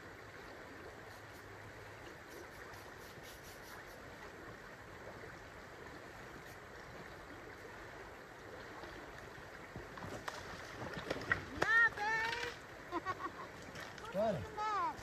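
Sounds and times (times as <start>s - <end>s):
river water rushing over gravel: 0.0s - 15.0s.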